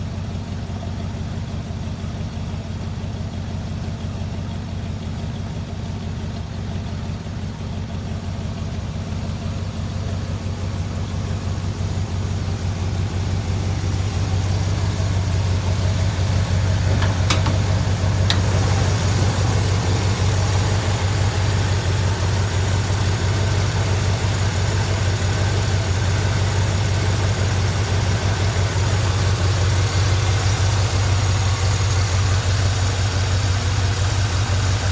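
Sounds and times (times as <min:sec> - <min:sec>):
truck engine idling: 0:00.0 - 0:34.9.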